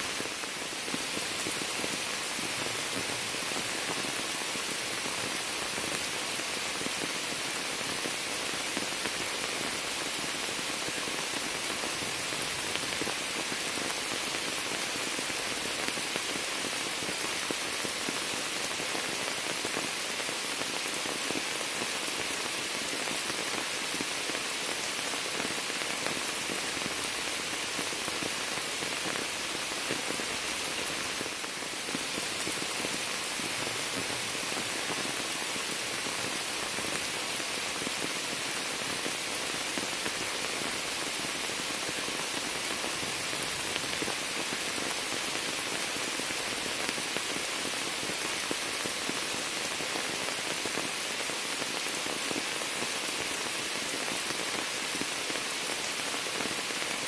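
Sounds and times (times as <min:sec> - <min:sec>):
rain falling into water: 0:00.0 - 0:57.0.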